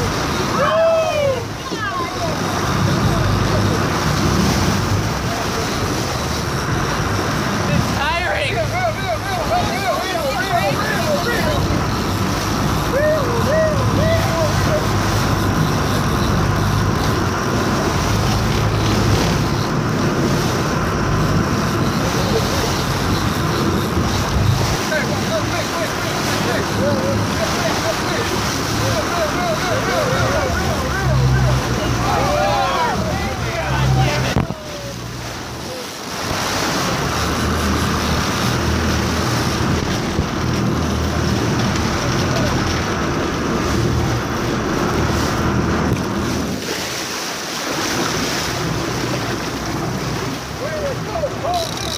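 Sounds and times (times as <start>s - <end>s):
motorboat engine droning: 0.0s - 51.9s
rushing wind and water: 0.0s - 51.9s.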